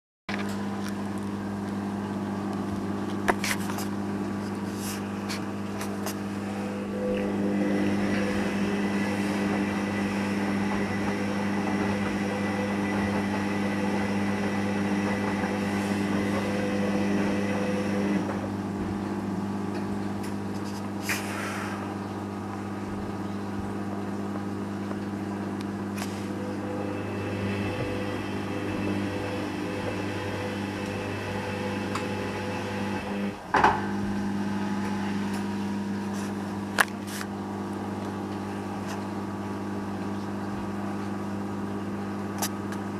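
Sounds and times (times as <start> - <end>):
washing machine motor humming: 0.3 - 42.9.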